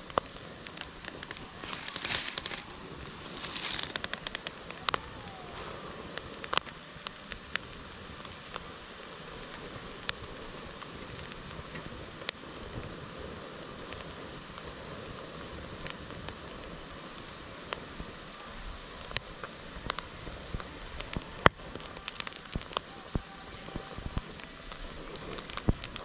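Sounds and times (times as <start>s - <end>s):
campfire crackling and popping: 0.0s - 26.0s
low steady hiss: 0.0s - 26.0s.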